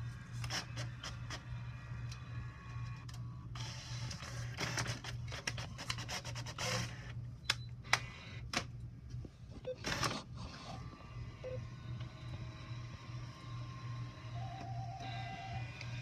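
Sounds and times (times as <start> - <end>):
low printer hum: 0.0 - 16.0.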